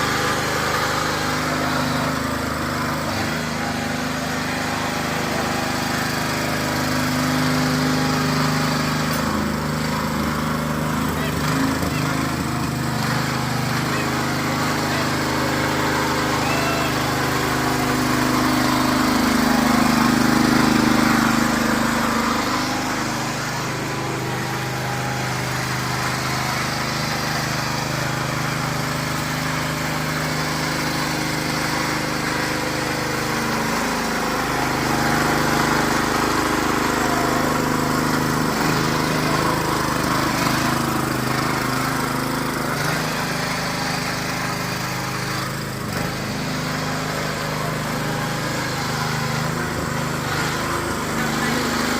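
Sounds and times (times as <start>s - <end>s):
hand tractor engine running: 0.0s - 51.9s.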